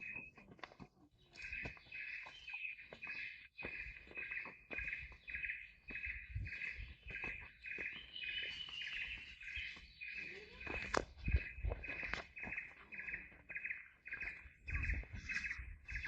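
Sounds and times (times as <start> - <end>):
footsteps on a trail: 0.0 - 16.0.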